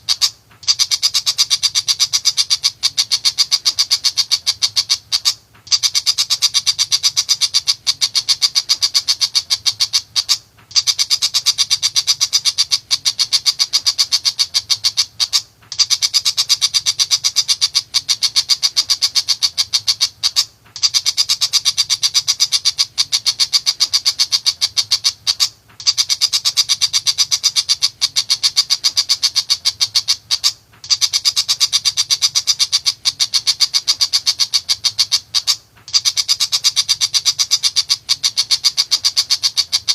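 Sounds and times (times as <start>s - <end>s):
shrike chattering: 0.0s - 39.9s.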